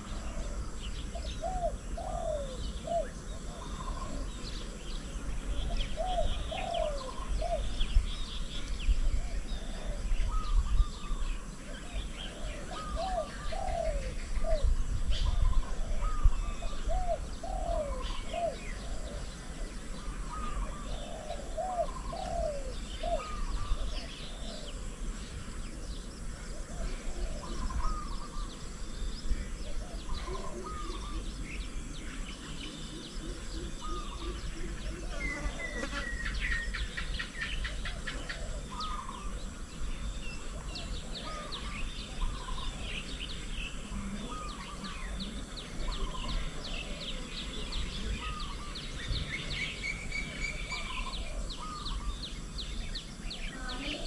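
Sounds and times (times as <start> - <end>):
doves cooing: 0.0 - 54.0
small birds chirping: 0.0 - 54.0.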